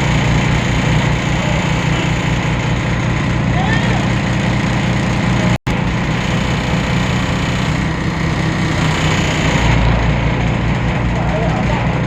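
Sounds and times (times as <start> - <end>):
bus diesel engine humming: 0.0 - 12.0.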